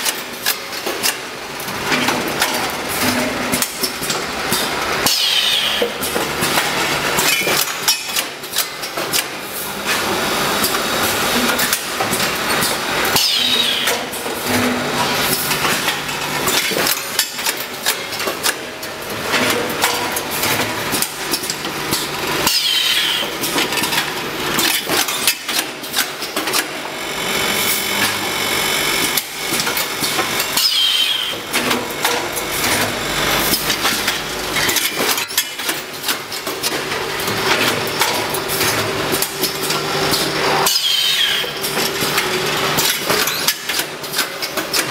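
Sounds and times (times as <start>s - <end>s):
packing machine clattering: 0.0s - 27.0s, 29.1s - 44.9s.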